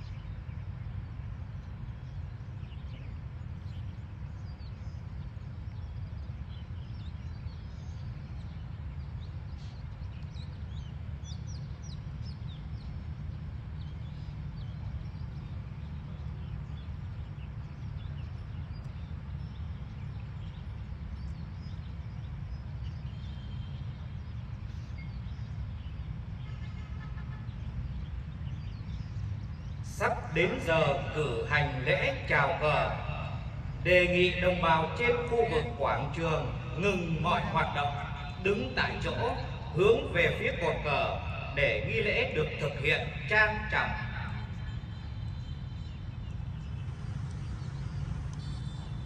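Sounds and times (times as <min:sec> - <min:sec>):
low outdoor rumble: 0:00.0 - 0:49.0
small birds chirping: 0:00.0 - 0:49.0.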